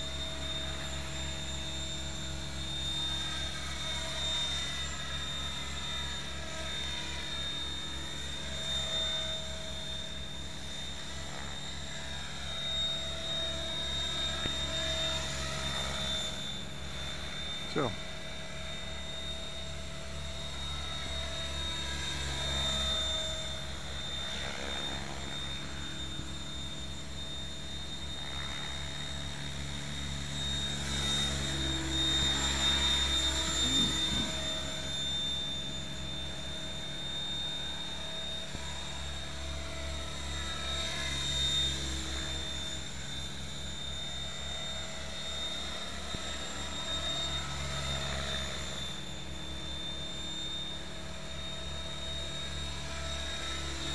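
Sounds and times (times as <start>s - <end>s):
rc helicopter flying past: 0.0s - 53.9s.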